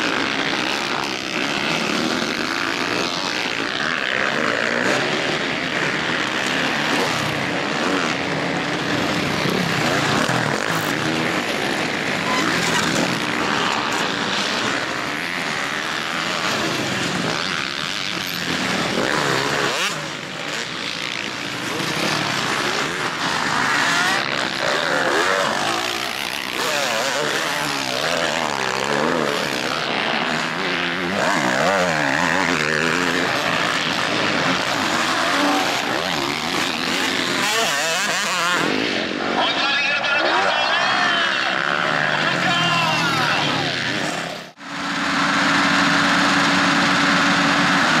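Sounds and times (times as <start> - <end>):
motocross bike engines revving: 0.0 - 48.0.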